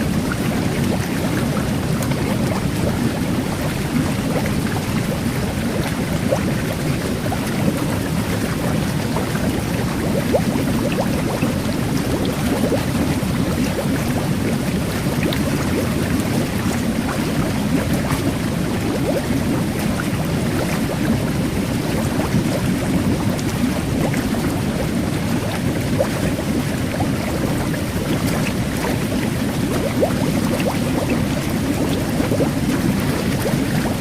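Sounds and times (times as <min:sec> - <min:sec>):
carbonated water bubbles fizzing: 0:00.0 - 0:34.0
jet bath water churning: 0:00.0 - 0:34.0.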